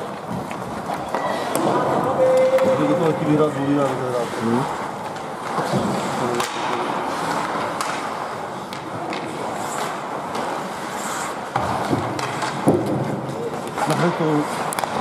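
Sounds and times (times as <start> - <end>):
hockey sticks clicking on puck: 0.0 - 15.0
skate blades scraping on ice: 0.0 - 15.0.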